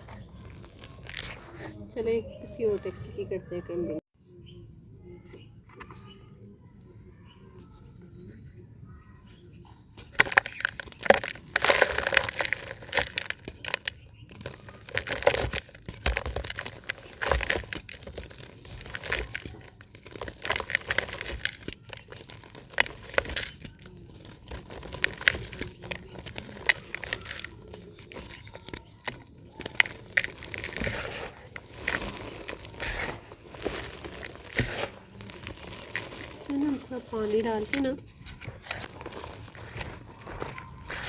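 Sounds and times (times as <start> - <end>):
dried dirt crumbling by hand: 0.0 - 3.0, 9.2 - 41.0.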